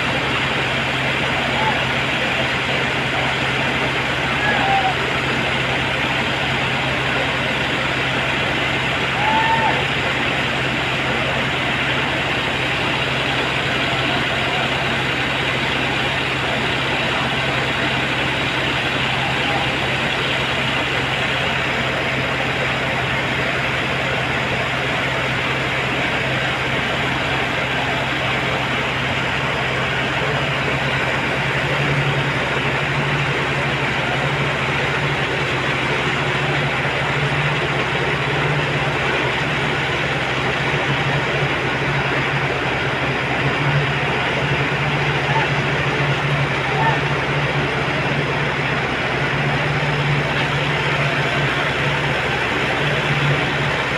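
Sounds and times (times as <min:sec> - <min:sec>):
heavy machinery engine running: 0:00.0 - 0:53.9.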